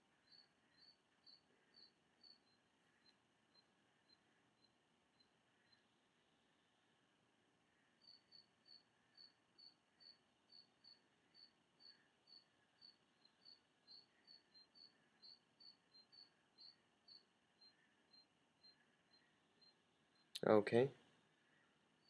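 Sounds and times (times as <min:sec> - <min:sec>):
faint cricket chirping: 0:00.0 - 0:22.0.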